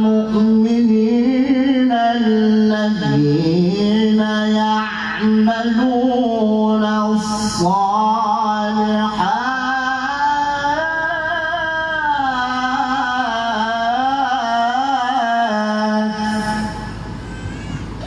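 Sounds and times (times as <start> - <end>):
man reciting melodically: 0.0 - 17.1.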